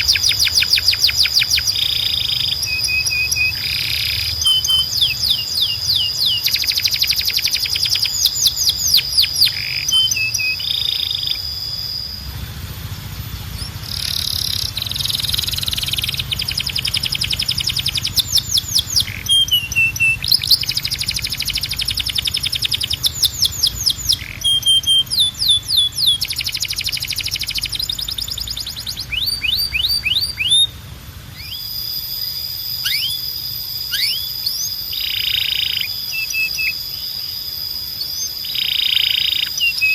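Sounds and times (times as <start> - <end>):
canary singing trills: 0.0 - 39.9
high whistled canary notes: 0.0 - 39.9.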